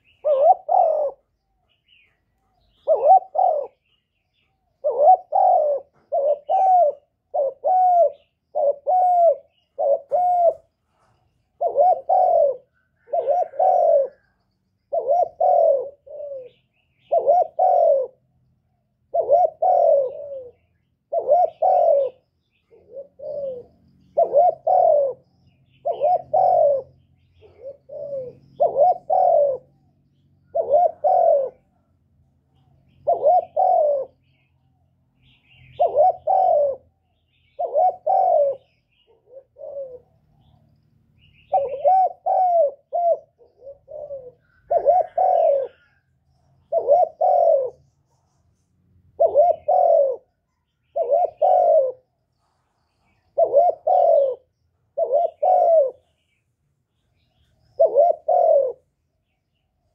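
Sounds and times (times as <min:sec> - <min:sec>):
dove cooing: 0:00.0 - 0:40.6, 0:41.2 - 0:56.4, 0:57.0 - 0:59.9.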